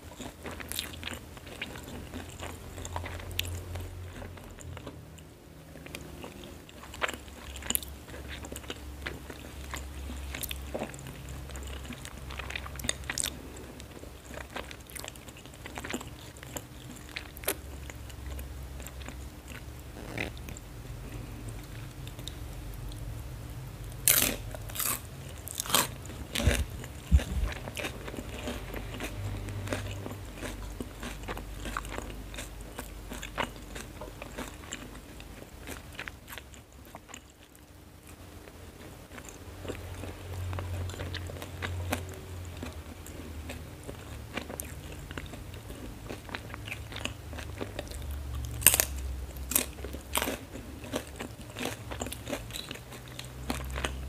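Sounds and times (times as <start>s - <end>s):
person chewing crunchy noodles: 0.0s - 23.0s, 23.8s - 54.0s.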